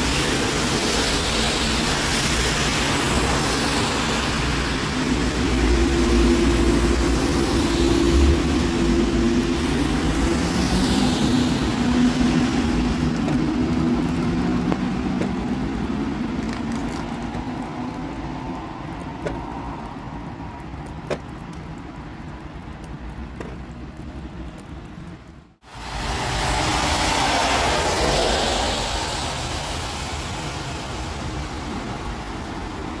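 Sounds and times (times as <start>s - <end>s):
car tyres hissing on wet road: 0.0s - 21.3s, 25.6s - 33.0s.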